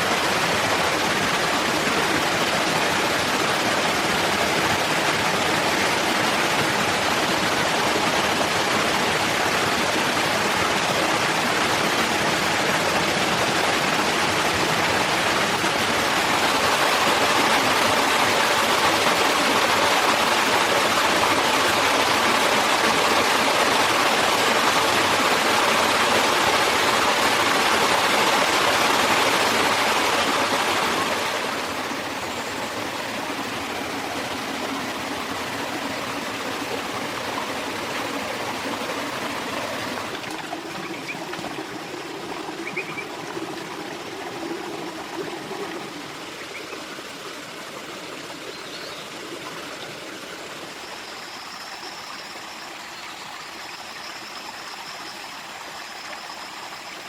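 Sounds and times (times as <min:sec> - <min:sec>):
stream water running: 0:00.0 - 0:57.0.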